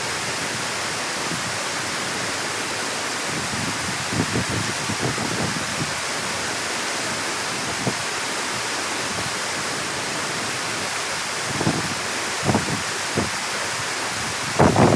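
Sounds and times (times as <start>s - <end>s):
water rushing through gate: 0.0s - 14.9s.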